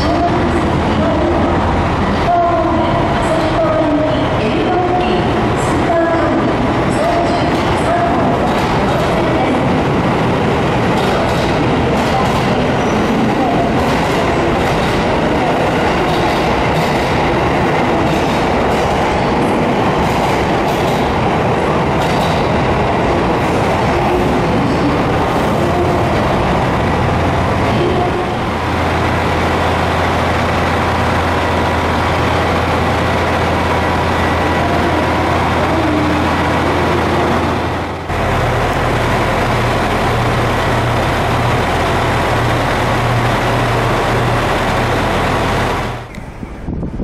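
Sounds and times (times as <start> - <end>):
diesel railcar engine hum: 0.0 - 47.0.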